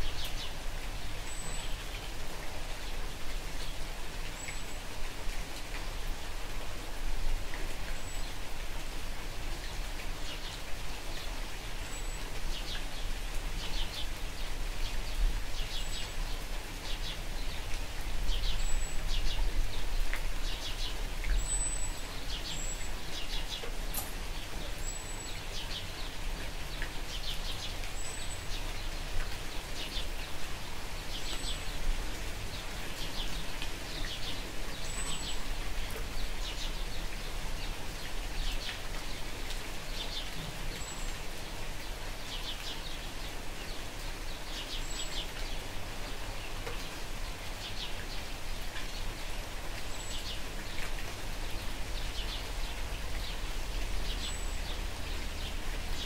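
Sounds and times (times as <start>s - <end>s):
light steady rain: 0.0s - 56.0s.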